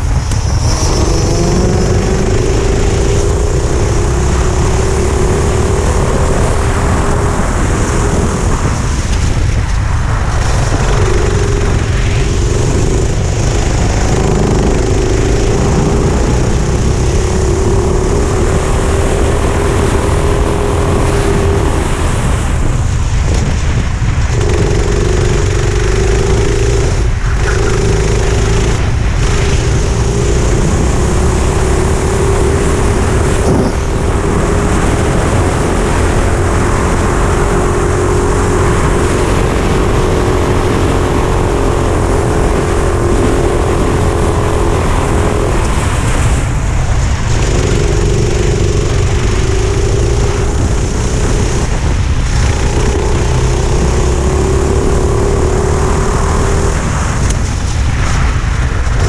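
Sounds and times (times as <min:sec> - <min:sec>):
kart engine running hard: 0:00.0 - 0:59.0
wind rumble on microphone: 0:00.0 - 0:59.0.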